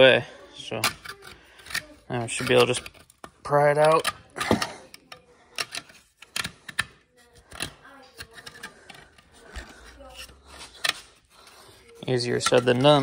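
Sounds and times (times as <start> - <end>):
hand tools clicking and scraping: 0.0 - 13.0.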